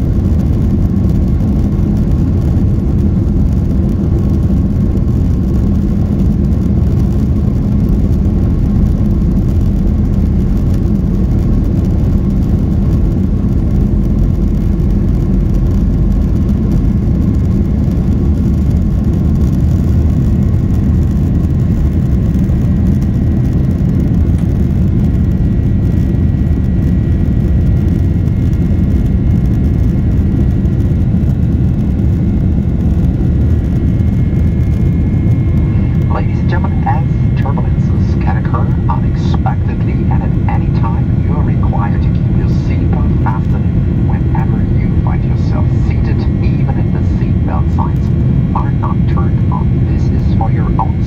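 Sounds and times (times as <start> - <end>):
faint engine whine: 0.0 - 51.0
jet engines deep rumble: 0.0 - 51.0.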